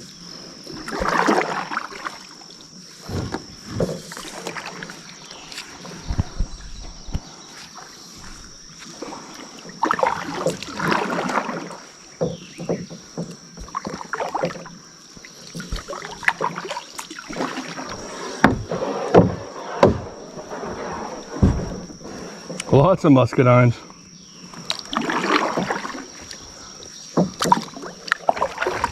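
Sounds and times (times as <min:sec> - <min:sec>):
paddle splashing in water: 0:00.7 - 0:02.4, 0:03.0 - 0:22.8, 0:24.4 - 0:28.9.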